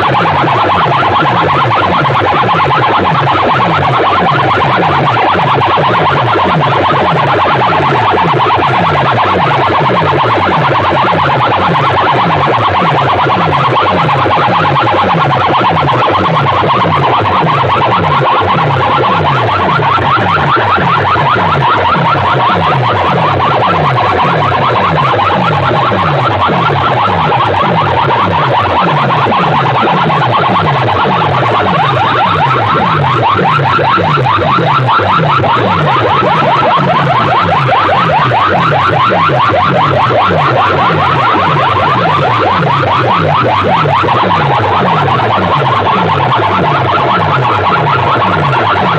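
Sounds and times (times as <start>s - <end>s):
fast bass pulses: 0.0s - 48.9s
wavering alarm-like electronic tone: 0.0s - 48.9s.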